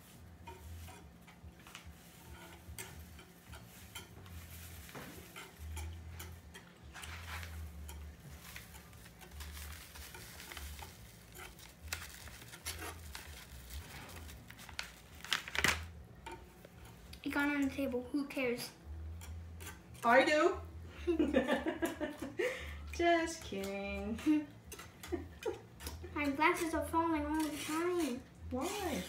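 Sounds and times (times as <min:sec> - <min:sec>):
wire whisk rattling in pot: 0:00.0 - 0:18.0, 0:19.1 - 0:20.4, 0:23.3 - 0:29.0.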